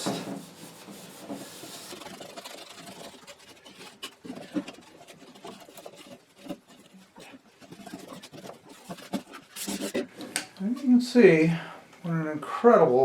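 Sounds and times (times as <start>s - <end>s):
steel wool scrubbing metal: 0.0s - 11.0s.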